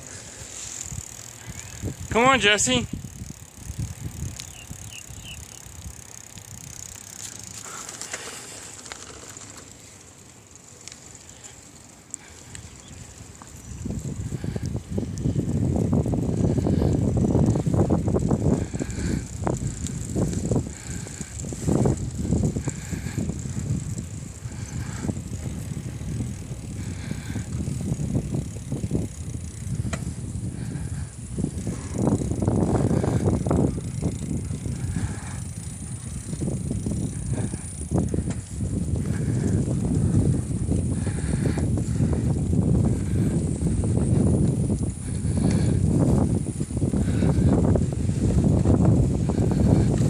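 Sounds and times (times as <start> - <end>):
bicycle tyre rumble: 0.0 - 50.0.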